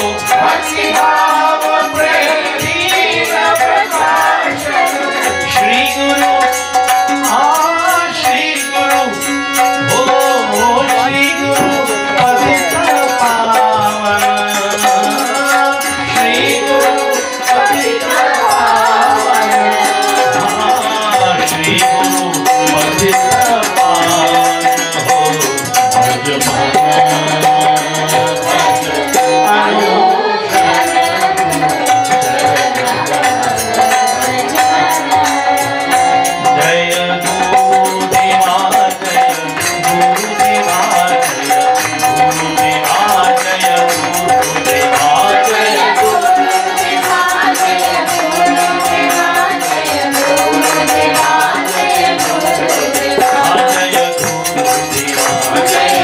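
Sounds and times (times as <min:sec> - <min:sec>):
man singing: 0:00.0 - 0:35.3, 0:35.9 - 0:56.0
harmonium: 0:00.0 - 0:56.0
jingling hand percussion: 0:00.0 - 0:56.0.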